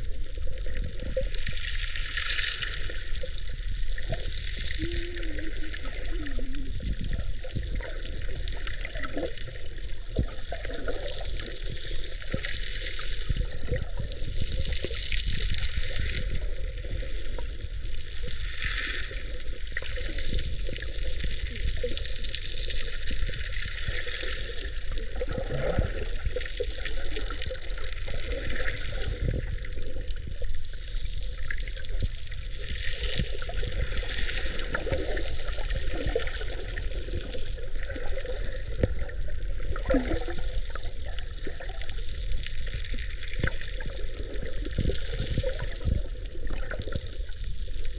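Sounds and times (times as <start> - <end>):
water sloshing and bubbling: 0.0 - 47.9.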